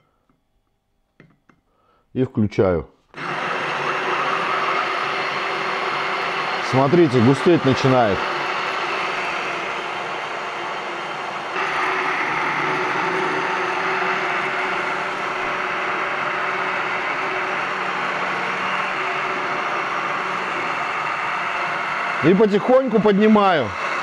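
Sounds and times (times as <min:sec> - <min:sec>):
stick blender running in glass mug: 0:03.1 - 0:24.0.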